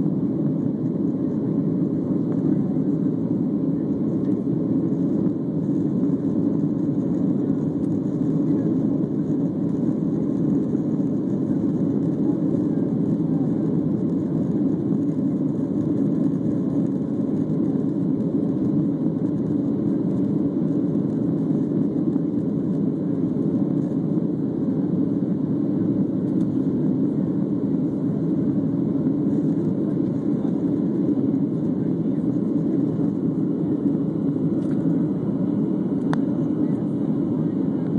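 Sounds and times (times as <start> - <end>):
jet cabin engine roar: 0.0 - 37.9.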